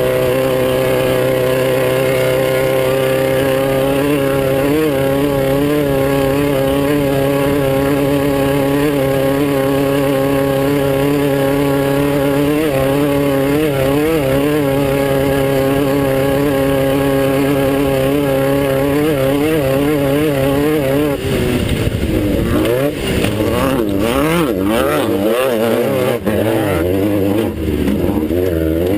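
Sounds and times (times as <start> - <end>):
race car engine revving: 0.0 - 28.9.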